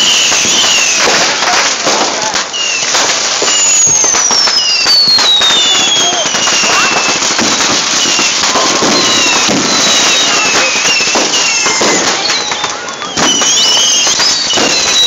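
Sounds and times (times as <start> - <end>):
fireworks crackling and banging: 0.0 - 15.0
whistling fireworks: 0.0 - 15.0.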